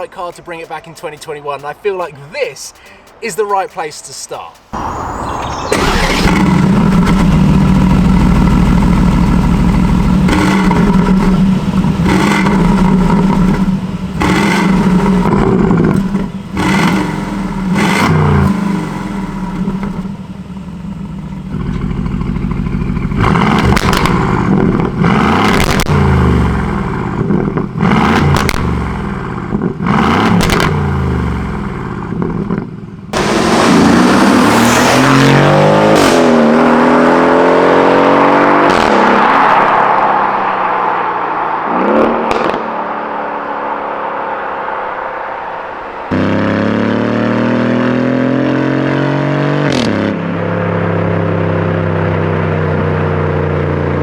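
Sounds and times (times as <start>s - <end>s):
exhaust cracks: 0.0s - 43.3s
car engine revving: 4.3s - 54.0s.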